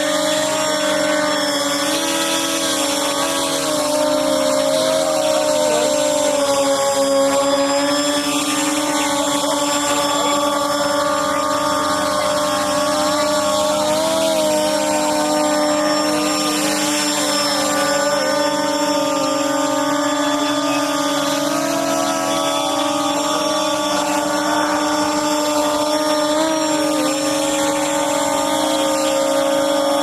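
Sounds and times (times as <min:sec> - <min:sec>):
model hovercraft motors humming: 0:00.0 - 0:30.0.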